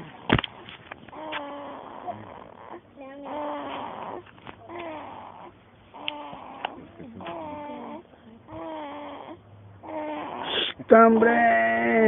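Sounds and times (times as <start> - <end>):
baby snoring: 0.0 - 10.9.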